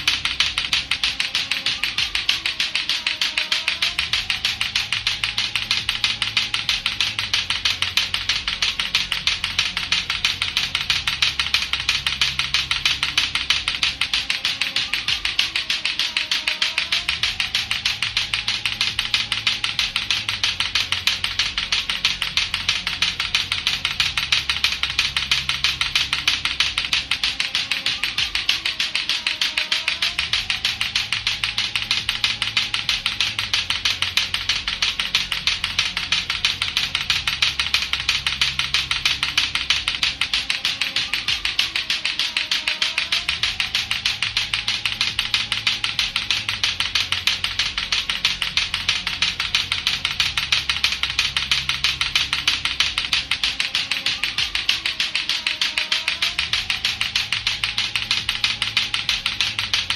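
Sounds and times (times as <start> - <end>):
clacker balls knocking together: 0.0 - 59.9.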